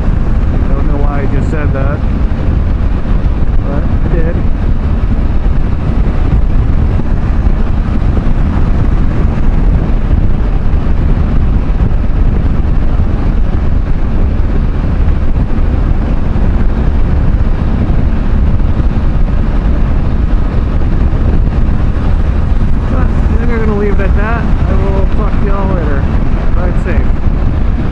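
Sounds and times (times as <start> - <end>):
motorcycle engine running: 0.0 - 27.9
wind rushing on microphone: 0.0 - 27.9.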